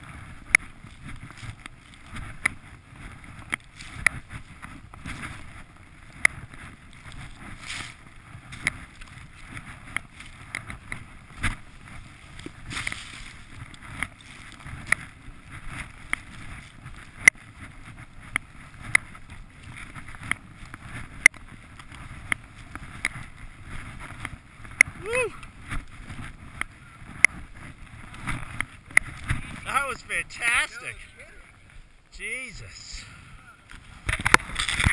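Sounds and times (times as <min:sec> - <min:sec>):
skis rushing through powder snow: 0:00.0 - 0:34.9
wind buffeting microphone: 0:00.0 - 0:34.9.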